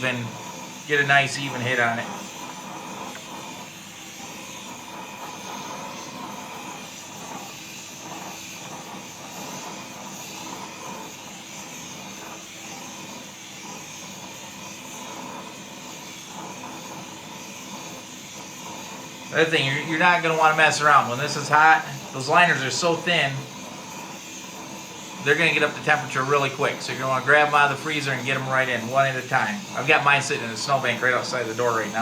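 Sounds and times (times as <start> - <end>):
propane torch flame roaring: 0.0 - 32.0.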